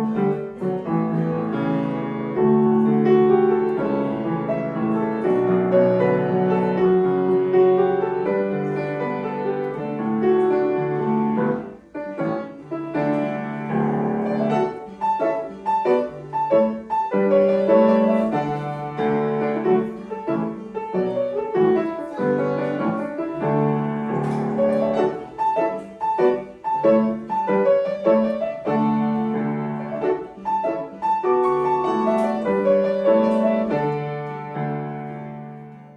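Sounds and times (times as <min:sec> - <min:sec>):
solo piano piece: 0:00.0 - 0:35.9.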